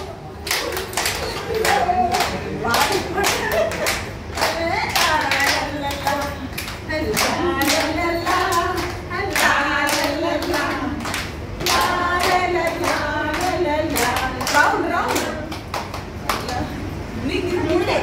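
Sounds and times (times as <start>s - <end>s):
women singing together: 0.0s - 15.7s
hand clapping: 0.4s - 16.6s.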